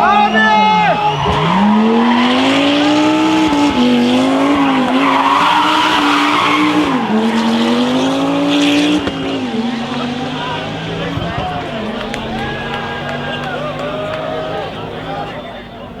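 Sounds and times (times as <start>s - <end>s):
rally car engine revving: 0.0s - 16.0s
tyres skidding: 0.0s - 16.0s.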